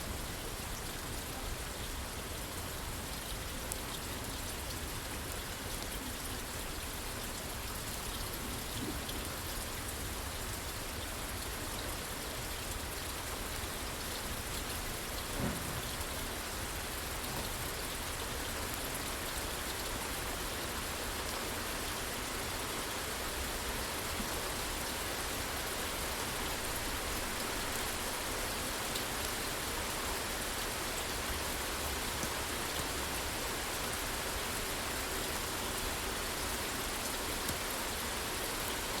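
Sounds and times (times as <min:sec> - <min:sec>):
rain on a roof: 0:00.0 - 0:39.0.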